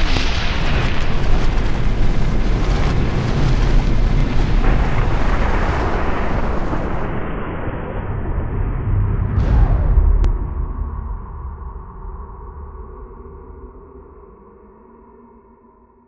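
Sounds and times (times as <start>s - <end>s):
cinematic explosion rumble: 0.0s - 14.8s.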